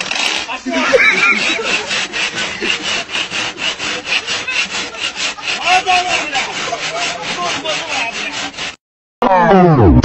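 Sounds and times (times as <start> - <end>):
rhythmic wood-on-wood rasping: 0.0 - 8.8.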